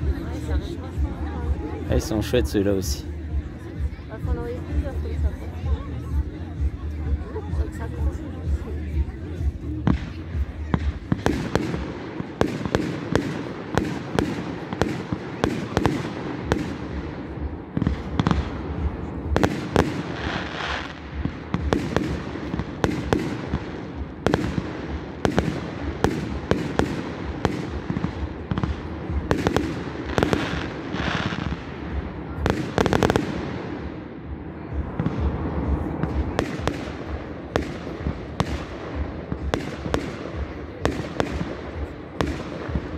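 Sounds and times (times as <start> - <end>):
continuous rumble: 0.0 - 42.9.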